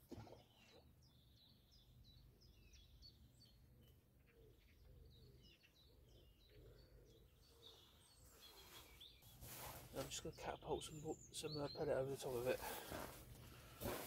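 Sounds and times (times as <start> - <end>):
songbird chirping: 0.1 - 14.0.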